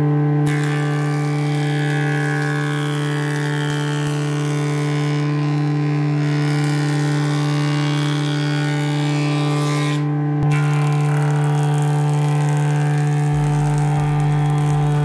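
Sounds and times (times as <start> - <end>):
jointer planing a board: 0.0 - 15.0.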